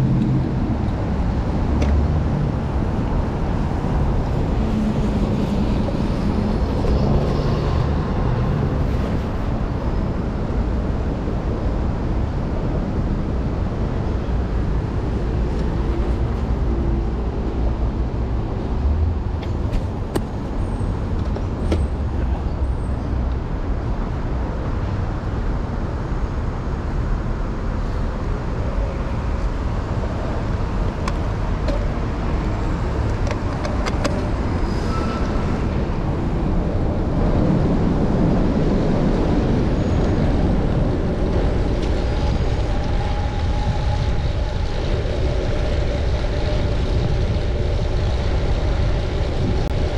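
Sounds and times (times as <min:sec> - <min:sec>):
city road traffic: 0:00.0 - 0:49.9.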